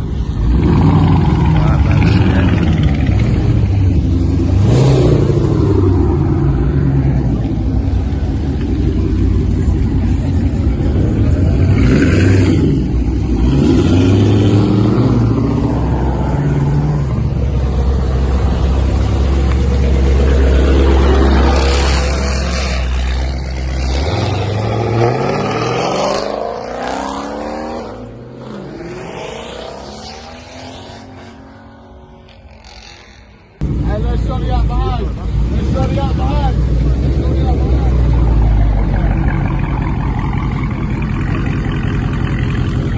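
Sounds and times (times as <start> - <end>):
car engine revving and accelerating: 0.0 - 42.9.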